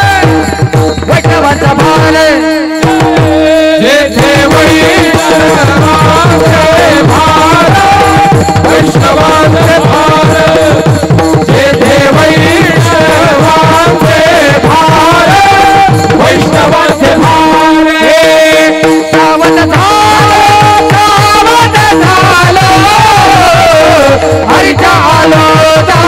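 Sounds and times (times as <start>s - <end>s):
drum strokes: 0.0s - 26.0s.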